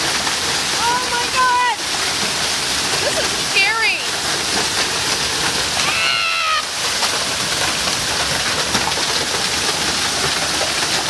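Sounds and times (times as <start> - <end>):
hail and rain pelting: 0.0 - 11.0.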